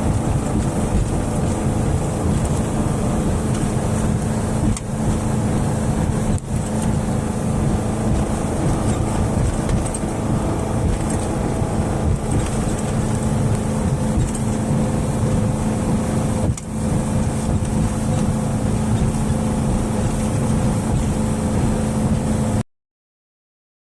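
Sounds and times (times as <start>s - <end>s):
boat engine humming: 0.0s - 22.6s
rushing water noise: 0.0s - 22.6s.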